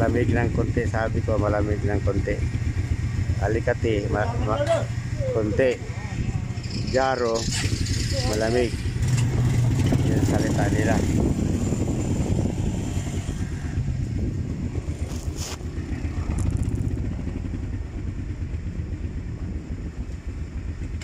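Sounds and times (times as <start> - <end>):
quad bike engine idling: 0.0 - 12.5, 13.4 - 21.0.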